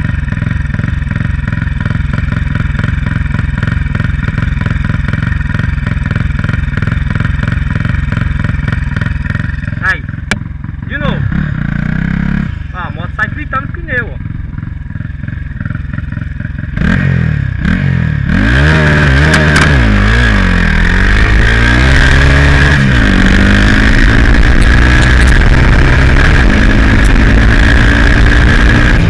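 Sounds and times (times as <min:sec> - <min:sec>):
turbo whine: 0:00.0 - 0:17.8, 0:18.6 - 0:29.0
motorcycle engine revving: 0:00.0 - 0:29.0.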